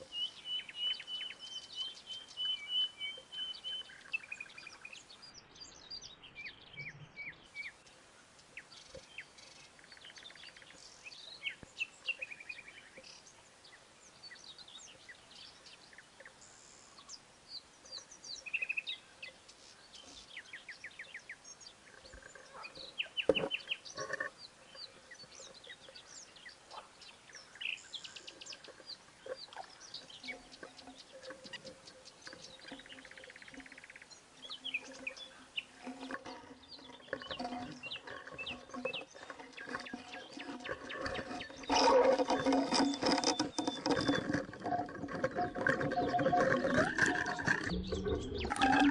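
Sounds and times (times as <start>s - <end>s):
faint steady hiss: 0.0s - 41.6s
songbirds chirping and trilling: 0.0s - 48.9s.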